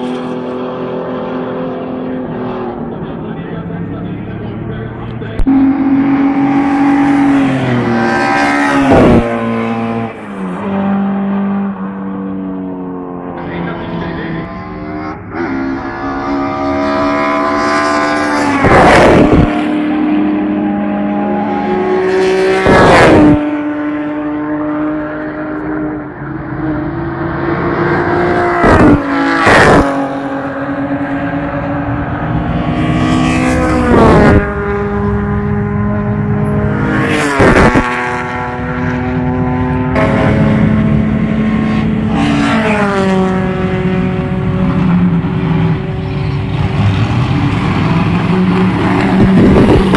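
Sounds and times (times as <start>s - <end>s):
race cars passing at speed: 0.0s - 49.9s.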